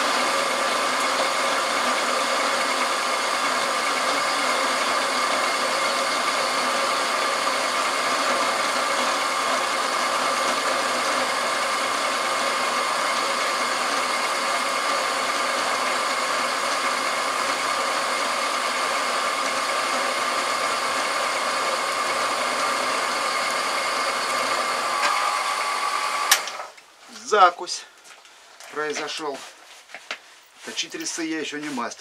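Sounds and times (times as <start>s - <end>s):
metal lathe running: 0.0s - 26.7s
whining drive: 0.0s - 26.8s.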